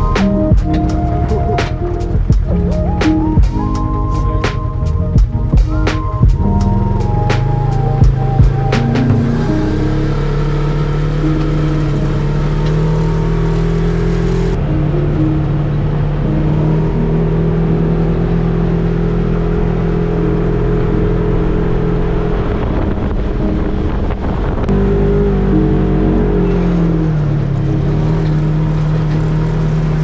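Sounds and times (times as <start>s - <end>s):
off-road vehicle engine running hard: 0.0s - 30.0s.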